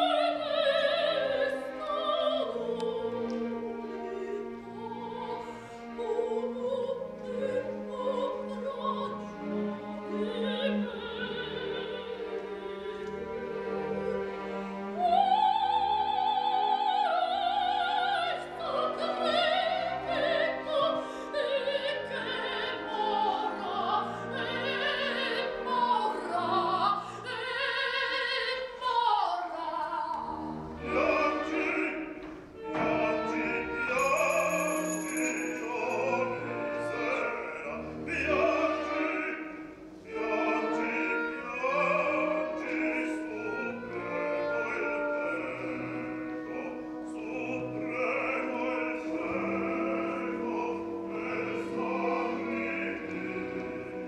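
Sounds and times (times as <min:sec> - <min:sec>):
soprano singing operatically: 0:00.0 - 0:14.3, 0:14.9 - 0:54.0
orchestra playing: 0:00.0 - 0:54.0.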